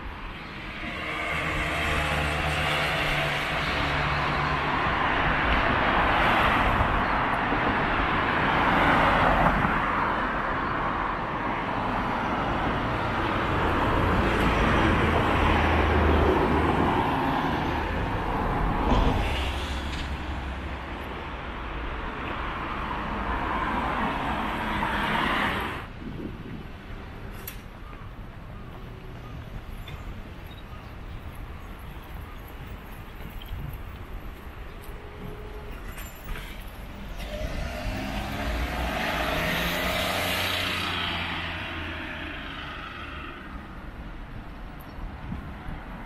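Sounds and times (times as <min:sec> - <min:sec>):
vehicles passing on city street: 0:00.0 - 0:46.0.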